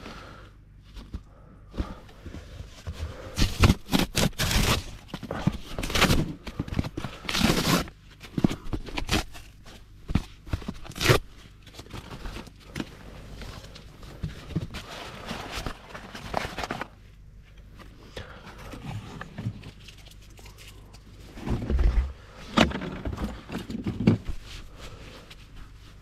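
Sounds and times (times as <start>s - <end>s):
rustling and crinkling: 0.8s - 26.0s.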